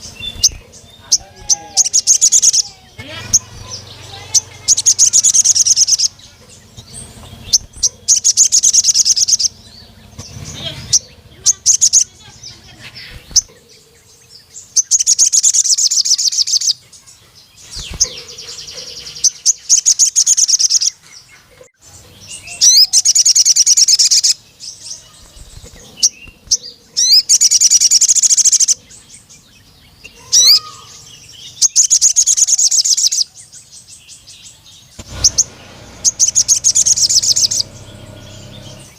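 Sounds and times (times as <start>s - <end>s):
bird chirps: 0.0s - 38.9s
bird trilling song: 0.0s - 38.9s.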